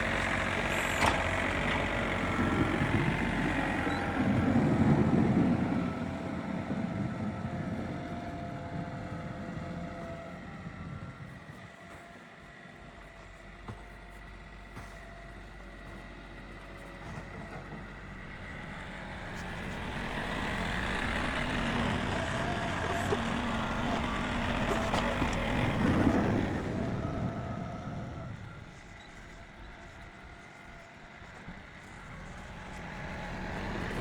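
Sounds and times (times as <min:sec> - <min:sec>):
motor vehicle passing by: 0:00.0 - 0:11.4, 0:15.8 - 0:34.0.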